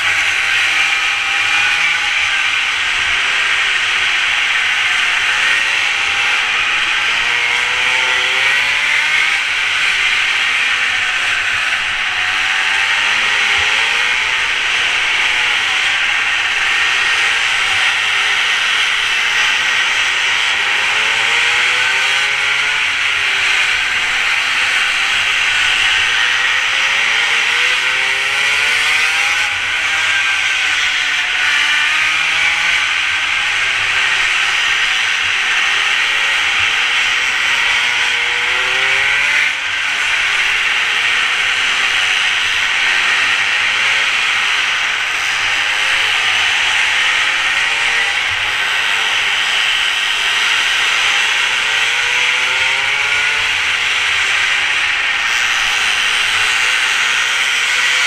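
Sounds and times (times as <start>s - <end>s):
small motorcycle engine revving: 0.0s - 58.0s.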